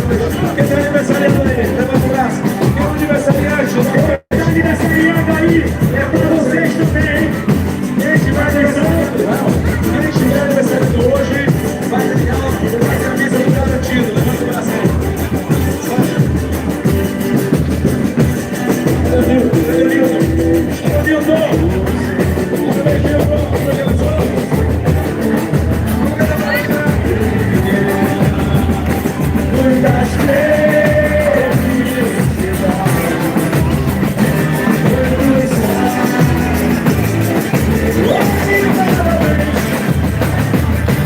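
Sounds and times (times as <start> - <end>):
band playing a melody: 0.0 - 41.0
drum beat: 0.0 - 41.0
singing: 0.0 - 41.0.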